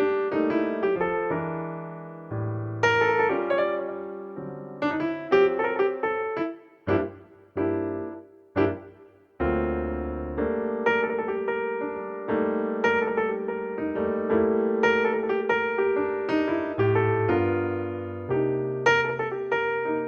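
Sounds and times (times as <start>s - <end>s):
piano playing: 0.0s - 20.0s.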